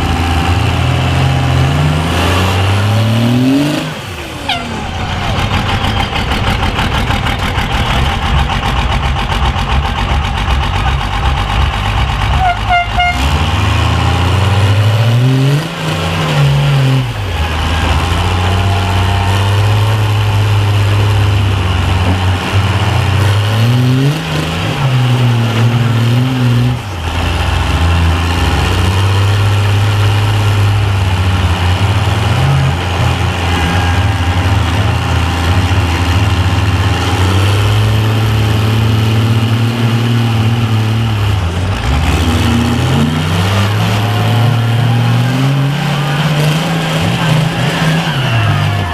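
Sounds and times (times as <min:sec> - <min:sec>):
truck engines revving loudly: 0:00.0 - 0:48.9.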